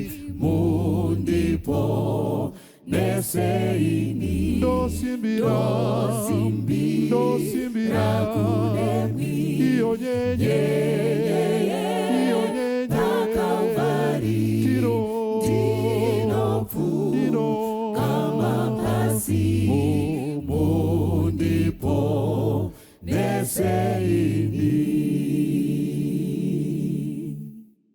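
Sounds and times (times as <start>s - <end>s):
choir singing a hymn unaccompanied: 0.0s - 27.6s.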